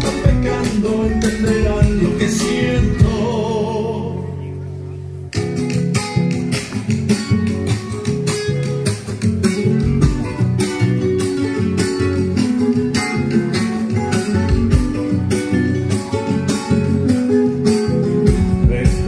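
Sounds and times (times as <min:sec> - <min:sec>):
strummed guitar: 0:00.0 - 0:19.0.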